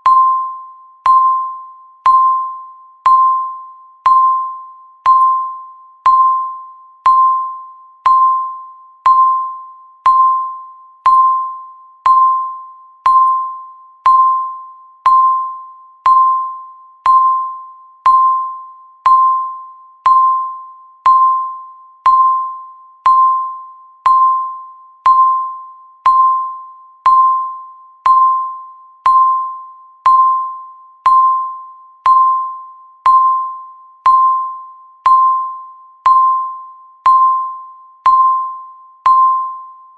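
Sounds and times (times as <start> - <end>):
electronic timer ticking tone: 0.0 - 39.9.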